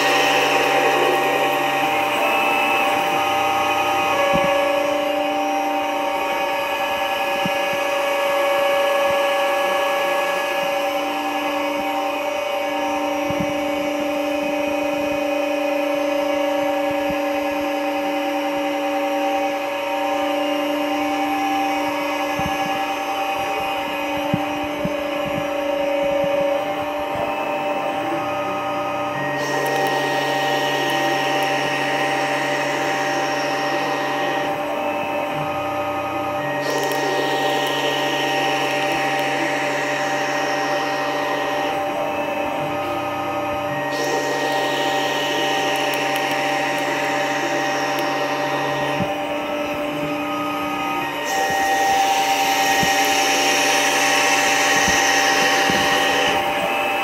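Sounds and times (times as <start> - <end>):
lathe cutting metal: 0.0 - 57.0
machine hum: 0.0 - 57.0.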